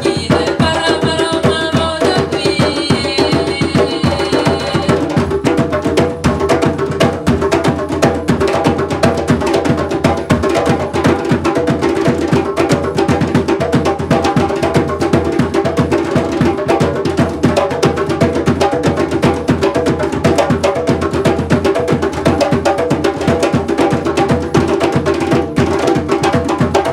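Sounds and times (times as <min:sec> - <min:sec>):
fast drumming: 0:00.0 - 0:26.9.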